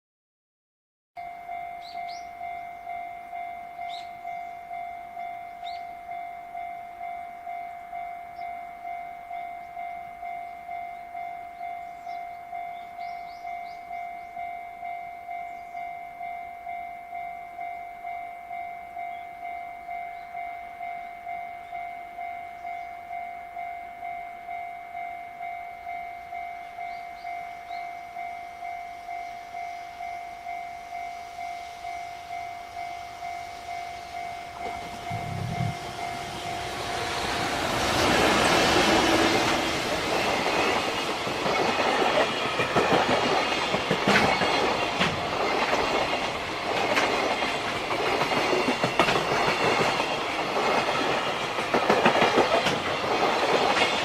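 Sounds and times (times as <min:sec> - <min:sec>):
level-crossing warning bell: 0:01.2 - 0:54.0
oncoming train: 0:01.2 - 0:54.0.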